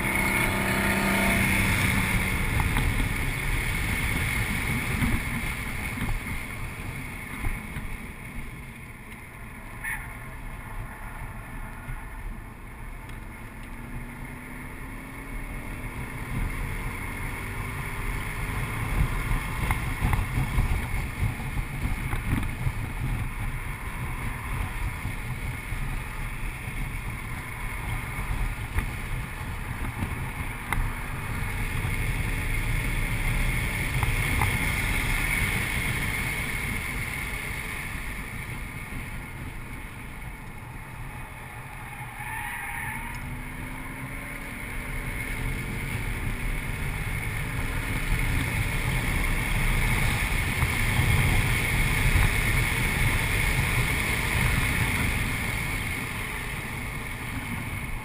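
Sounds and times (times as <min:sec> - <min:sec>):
car engine running hard: 0:00.0 - 0:58.0
road and wind noise: 0:00.0 - 0:58.0.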